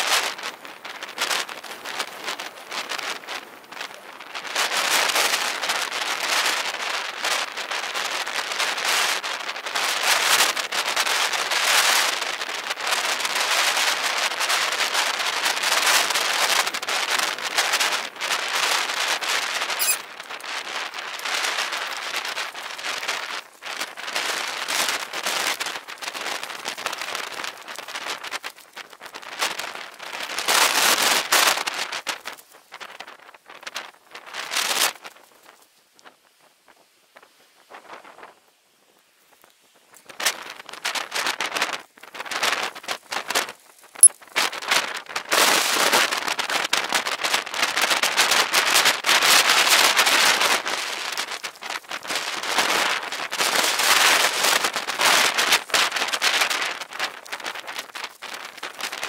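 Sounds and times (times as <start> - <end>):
bicycle tyres rolling over grass: 0.0 - 59.0.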